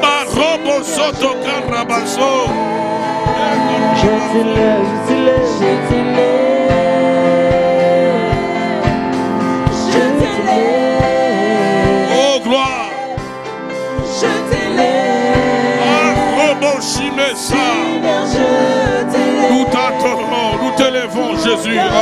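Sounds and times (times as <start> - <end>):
man singing with vibrato: 0.0 - 8.4, 9.7 - 13.3, 14.2 - 22.0
sustained instrumental chords: 0.0 - 22.0.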